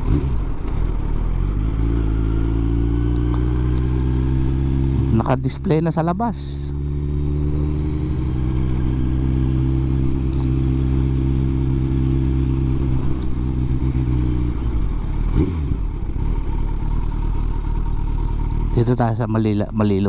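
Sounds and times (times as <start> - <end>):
motorcycle engine rev: 0.0 - 20.0
motorcycle engine running: 0.0 - 20.0.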